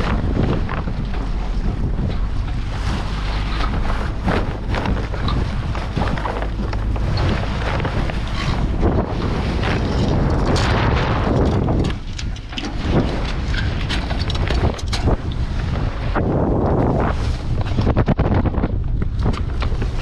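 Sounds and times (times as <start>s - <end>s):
knocks and flutters: 0.0s - 20.0s
strong wind buffeting microphone: 0.0s - 20.0s.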